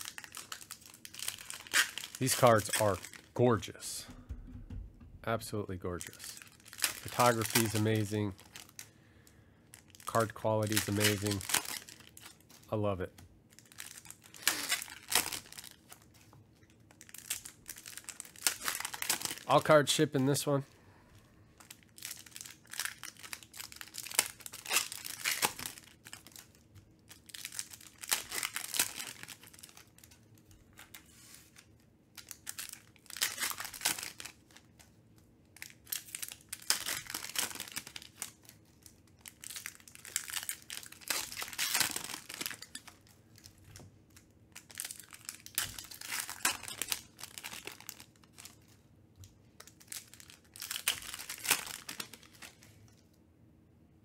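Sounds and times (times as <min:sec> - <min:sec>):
foil wrappers tearing and crinkling: 0:00.0 - 0:04.1, 0:05.9 - 0:08.9, 0:09.7 - 0:12.8, 0:13.5 - 0:16.3, 0:16.9 - 0:19.8, 0:21.6 - 0:34.9, 0:35.5 - 0:48.8, 0:49.6 - 0:52.7.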